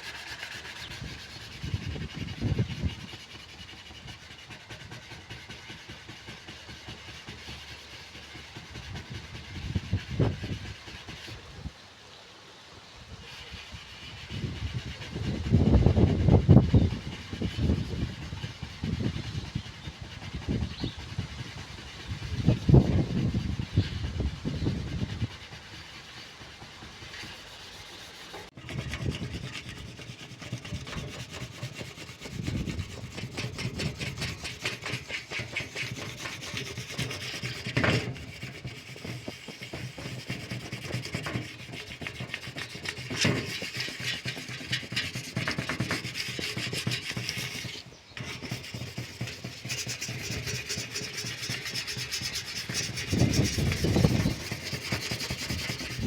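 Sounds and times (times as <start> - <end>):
sandpaper rubbing on metal case: 0.0 - 11.7, 13.2 - 56.0.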